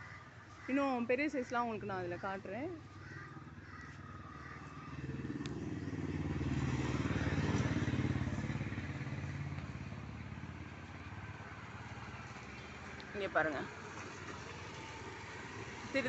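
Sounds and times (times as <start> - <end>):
passing vehicle engine: 2.8 - 16.0.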